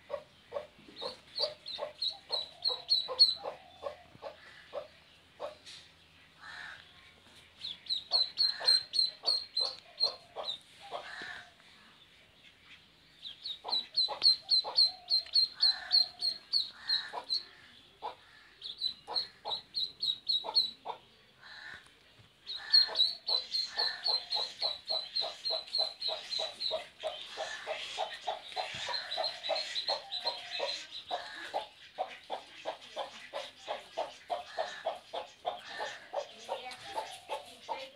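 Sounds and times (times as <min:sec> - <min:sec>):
hen clucking: 0:00.0 - 0:05.8, 0:07.9 - 0:11.5, 0:13.4 - 0:21.0, 0:22.5 - 0:37.9
ducklings peeping: 0:00.1 - 0:05.5, 0:07.5 - 0:11.3, 0:13.2 - 0:21.0, 0:22.5 - 0:37.9.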